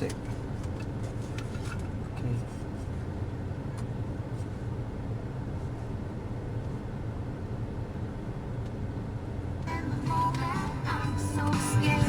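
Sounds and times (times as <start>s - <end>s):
car engine idling: 1.9s - 12.0s.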